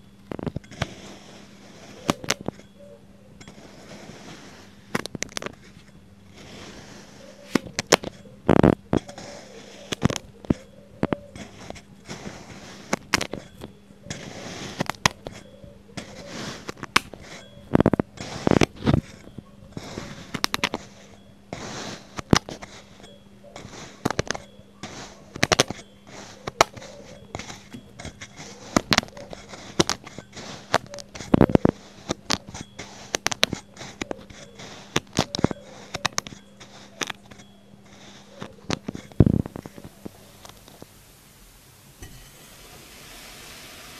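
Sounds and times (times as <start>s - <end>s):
fork crunching kinetic sand: 0.4s - 2.8s, 3.4s - 41.0s.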